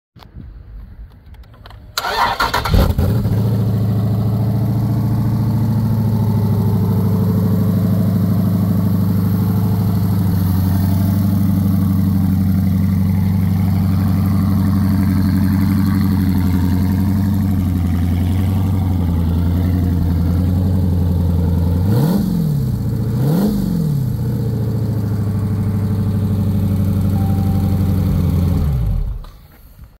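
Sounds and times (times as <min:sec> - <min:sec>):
engine idling: 0:02.0 - 0:29.6
engine running down: 0:02.0 - 0:29.8
engine throttle blips: 0:02.0 - 0:29.8.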